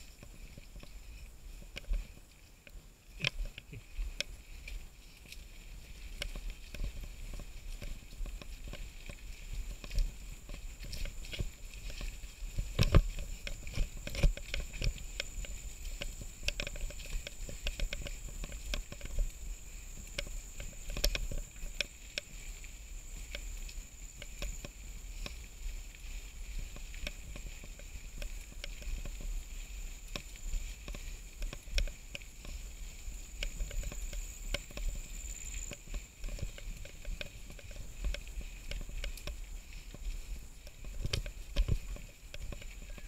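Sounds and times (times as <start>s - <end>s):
bike rattling clicks and knocks: 5.2s - 43.0s.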